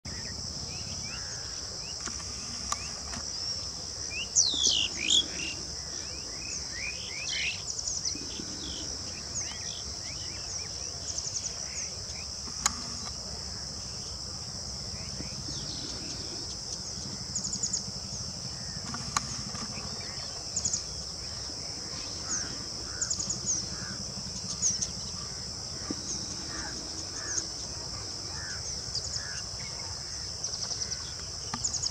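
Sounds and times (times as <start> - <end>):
insects droning: 0.0 - 31.9
birds calling: 0.1 - 31.9.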